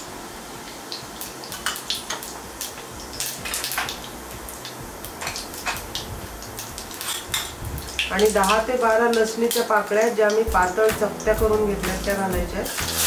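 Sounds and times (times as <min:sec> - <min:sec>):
seeds sizzling in hot oil: 0:00.0 - 0:13.0.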